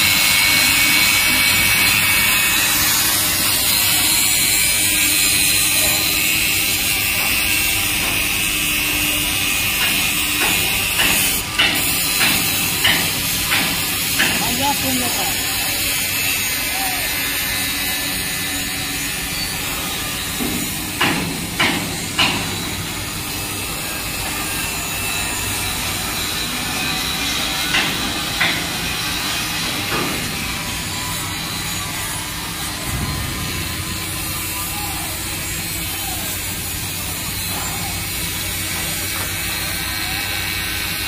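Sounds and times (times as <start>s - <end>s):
industrial din: 0.0s - 41.0s.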